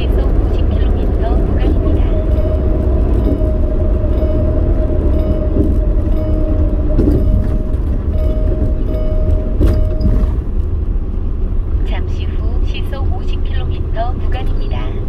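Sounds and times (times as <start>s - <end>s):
engine and road rumble: 0.0s - 15.0s
thin steady whine: 0.0s - 15.0s.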